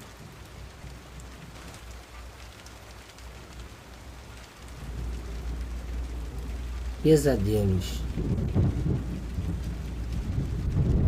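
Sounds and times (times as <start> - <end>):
rain falling: 0.0 - 11.0
raindrop ticks: 0.0 - 11.0
thunder rumbling: 0.0 - 11.0.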